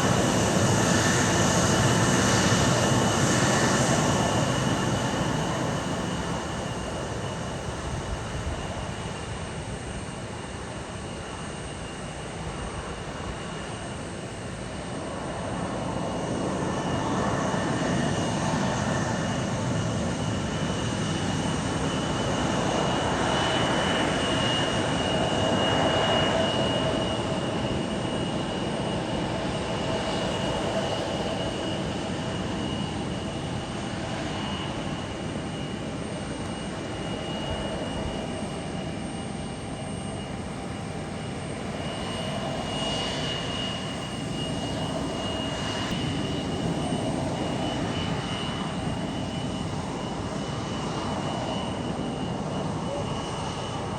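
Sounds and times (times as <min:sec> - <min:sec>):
jet engines whining: 0:00.0 - 0:53.9.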